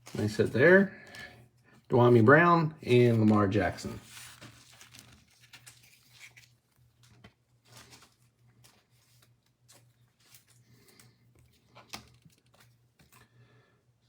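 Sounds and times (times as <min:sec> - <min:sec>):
trading cards rustling and clicking: 0:00.0 - 0:01.3, 0:02.9 - 0:13.4.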